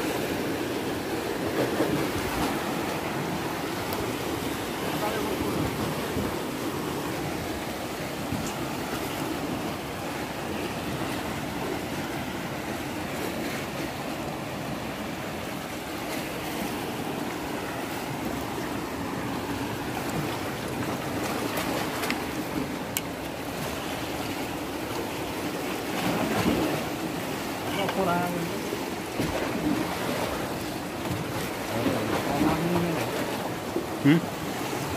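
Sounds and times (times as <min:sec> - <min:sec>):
sea waves washing against rocks: 0:00.0 - 0:34.9.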